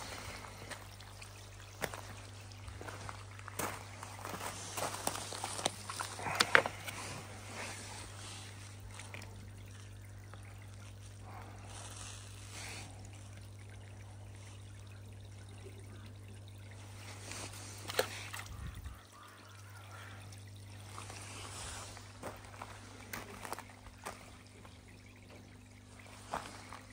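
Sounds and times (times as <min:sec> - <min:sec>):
pond water trickling and bubbling: 0:00.0 - 0:26.9
steady low hum: 0:00.0 - 0:26.9.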